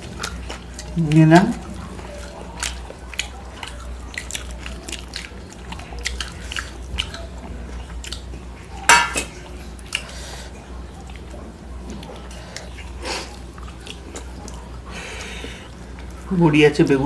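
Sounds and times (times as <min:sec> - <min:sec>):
wet mouth clicks and chewing: 0:00.0 - 0:10.2, 0:11.0 - 0:16.2.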